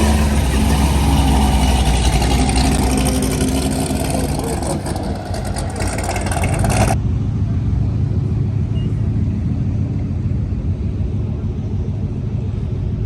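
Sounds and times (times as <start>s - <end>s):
car engine droning: 0.0s - 13.0s
road rumble: 0.0s - 13.0s.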